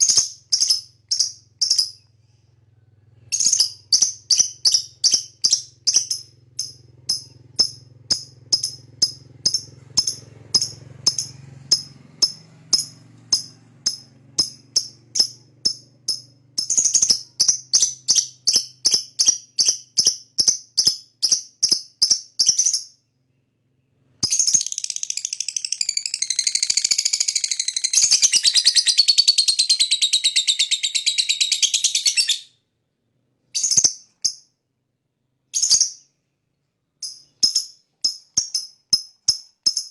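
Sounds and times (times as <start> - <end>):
lovebird chirping and trilling: 0.0 - 2.2, 3.3 - 23.1, 24.2 - 32.6, 33.5 - 34.5, 35.5 - 36.2, 37.0 - 39.9.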